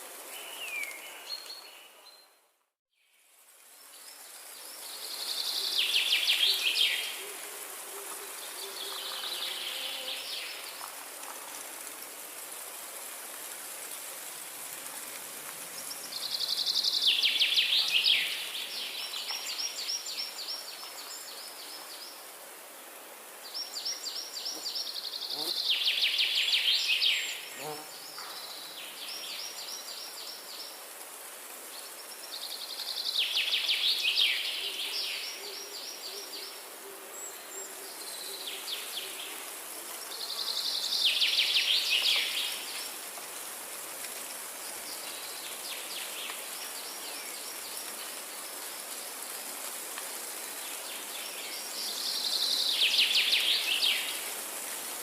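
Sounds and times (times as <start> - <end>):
steady high hiss: 3.0 - 55.0.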